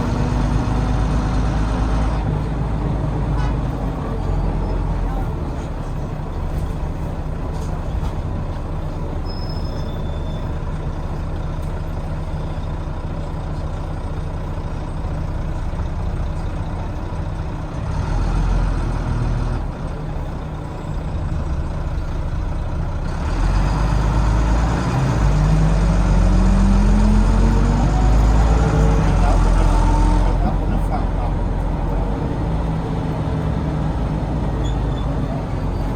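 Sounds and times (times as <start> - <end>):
bus diesel engine: 0.0 - 35.9.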